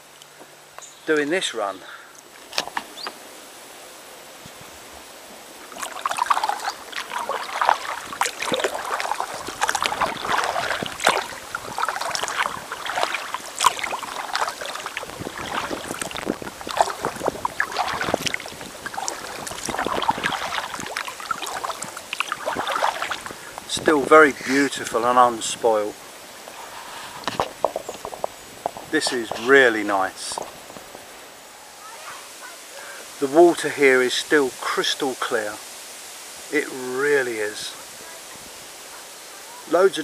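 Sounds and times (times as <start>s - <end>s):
kayak paddle splashing: 2.1s - 3.4s, 4.3s - 40.0s.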